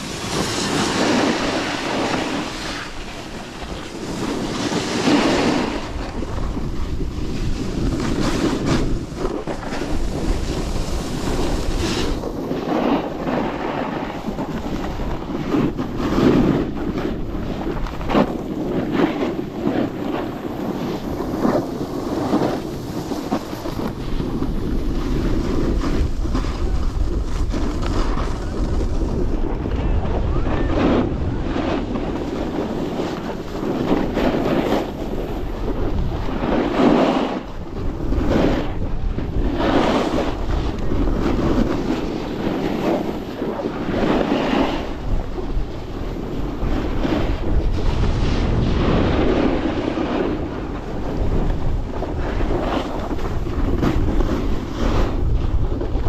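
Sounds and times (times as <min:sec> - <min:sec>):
snowboard edges scraping snow: 0:00.0 - 0:56.0
wind buffeting microphone: 0:00.0 - 0:56.0.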